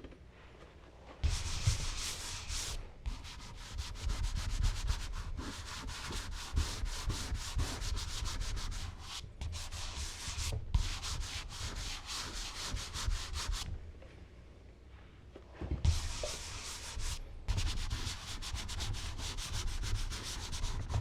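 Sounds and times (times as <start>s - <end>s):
charcoal scratching on paper: 1.2s - 13.6s, 15.8s - 21.0s.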